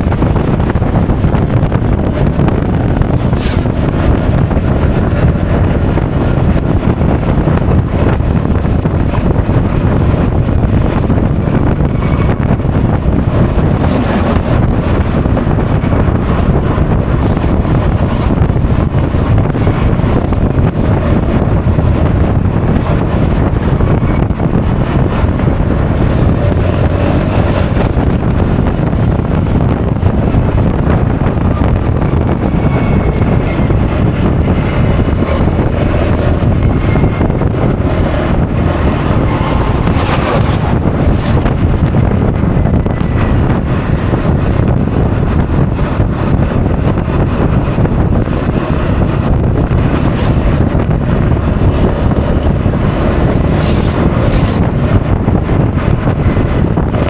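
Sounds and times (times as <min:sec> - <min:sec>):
scooter engine and road noise: 0:00.0 - 0:57.0
wind buffeting microphone: 0:00.0 - 0:57.0.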